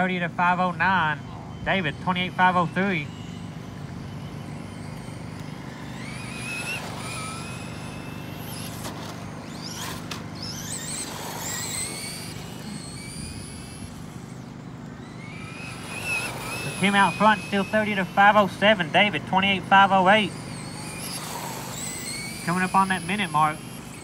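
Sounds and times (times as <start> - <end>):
rc car motors whining: 0.0 - 24.0.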